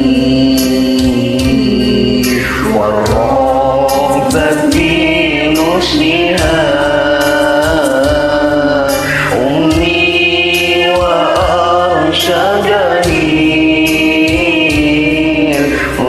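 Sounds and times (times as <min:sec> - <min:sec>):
backing track drum beat: 0:00.0 - 0:16.0
person singing karaoke: 0:00.0 - 0:16.0.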